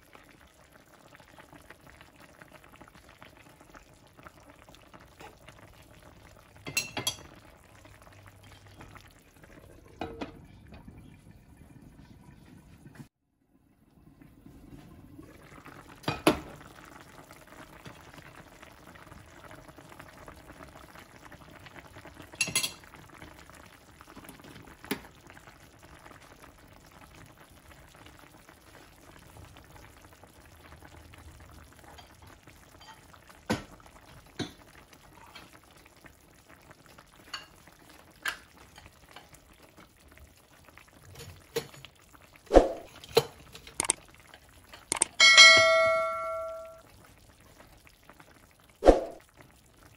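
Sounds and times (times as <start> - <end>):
soup simmering in a pan: 0.0 - 49.9.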